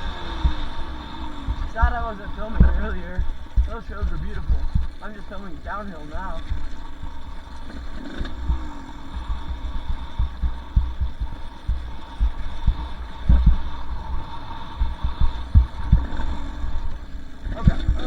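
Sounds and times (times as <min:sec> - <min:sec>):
dirt bike jolting over bumps: 0:00.0 - 0:18.0
faint engine tone: 0:00.0 - 0:18.0.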